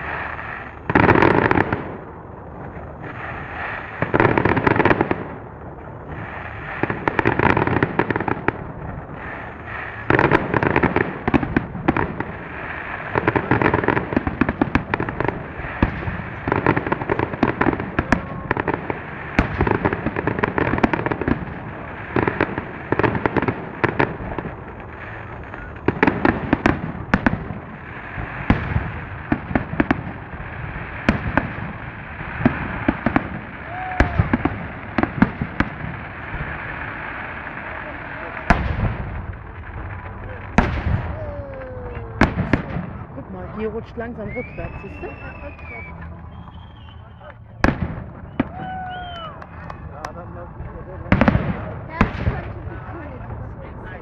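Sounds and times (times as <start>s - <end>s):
fireworks crackling bangs: 0.0s - 54.0s.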